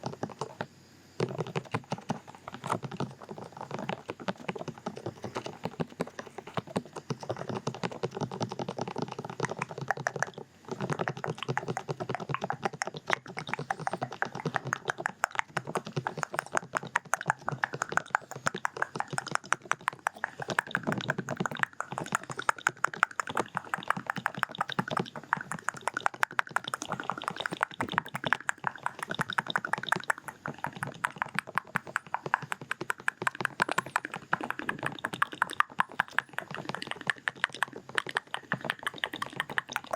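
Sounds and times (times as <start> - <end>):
rapid muffled taps on microphone: 0.0 - 39.9.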